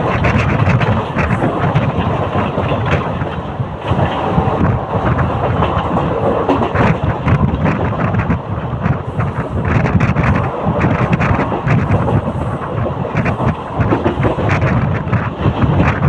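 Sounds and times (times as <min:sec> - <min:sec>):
steady rushing train noise: 0:00.0 - 0:16.0
train wheels clattering over rail joints: 0:00.0 - 0:16.0.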